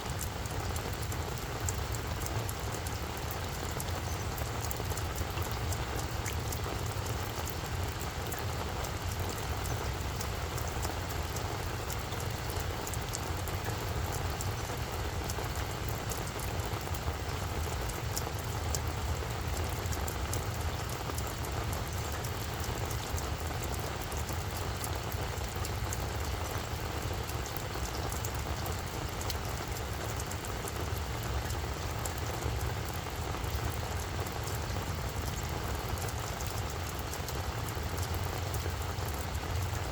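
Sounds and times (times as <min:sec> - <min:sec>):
raindrops ticking: 0:00.0 - 0:39.9.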